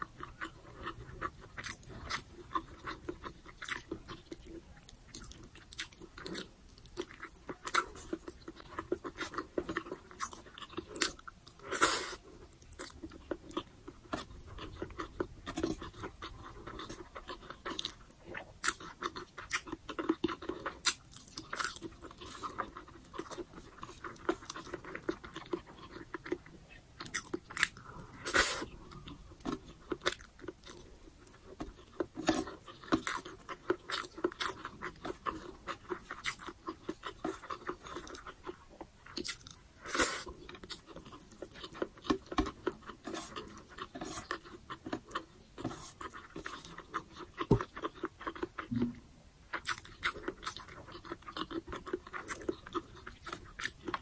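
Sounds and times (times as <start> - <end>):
crunchy chewing: 0.0 - 48.9, 49.5 - 54.0
person chewing food: 0.0 - 54.0.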